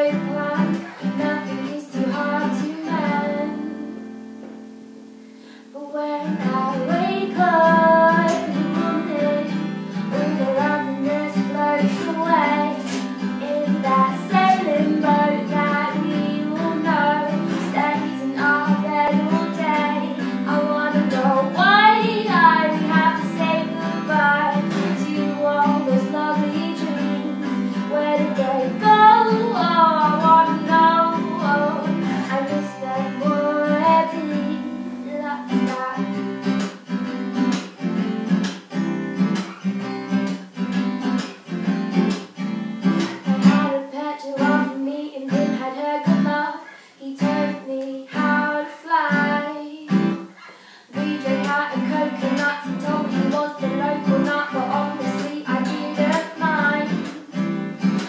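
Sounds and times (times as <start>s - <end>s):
woman singing: 0.0s - 4.9s, 5.6s - 36.7s, 43.2s - 58.0s
acoustic guitar strumming: 0.0s - 58.0s.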